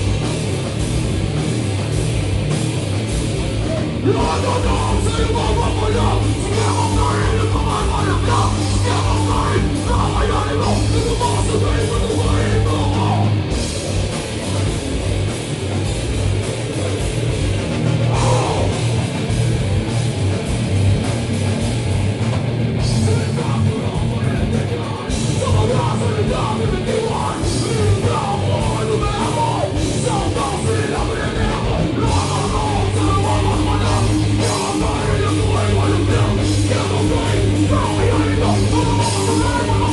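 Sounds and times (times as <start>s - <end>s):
metal band playing loud: 0.0s - 39.9s.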